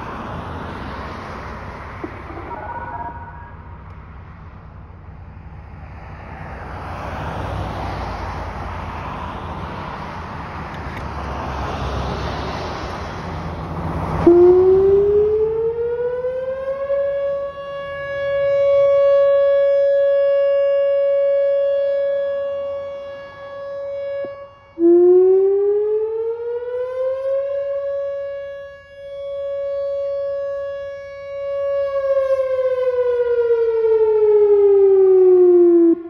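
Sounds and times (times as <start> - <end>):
warning siren wailing: 0.0 - 36.0.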